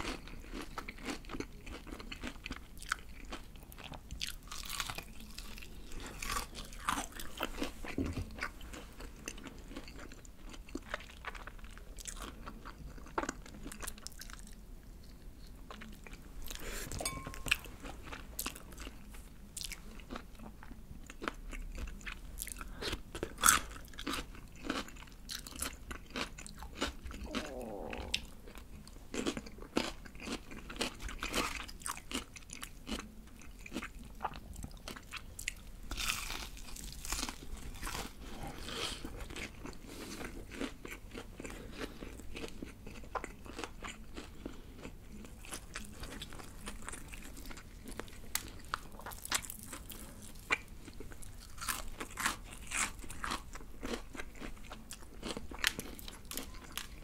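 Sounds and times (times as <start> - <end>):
crunchy fried chicken chewing: 0.0 - 17.0, 17.8 - 57.0.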